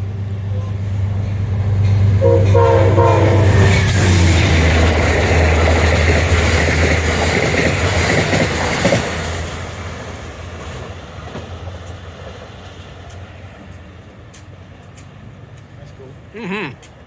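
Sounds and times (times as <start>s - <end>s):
train wheels clattering on rails: 1.1s - 16.2s.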